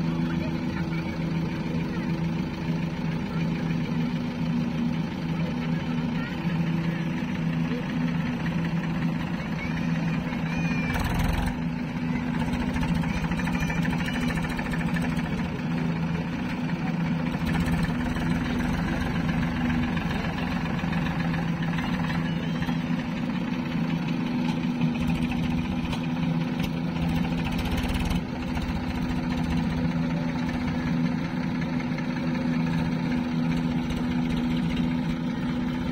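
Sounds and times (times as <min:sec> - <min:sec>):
diesel engine running steadily: 0:00.0 - 0:35.9.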